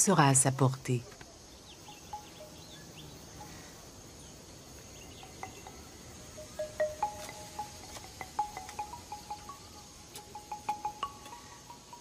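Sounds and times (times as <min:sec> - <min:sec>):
high insect buzz: 0:00.0 - 0:12.0.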